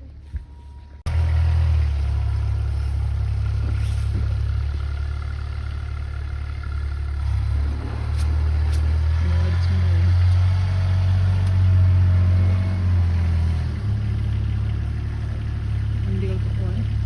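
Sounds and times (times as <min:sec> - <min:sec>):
vehicle engine running loudly: 0:01.1 - 0:17.0.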